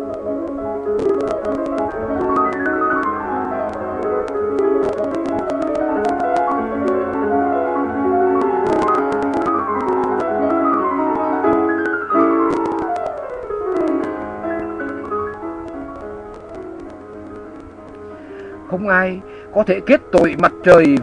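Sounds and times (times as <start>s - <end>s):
instrumental music with fast runs: 0.0s - 21.0s.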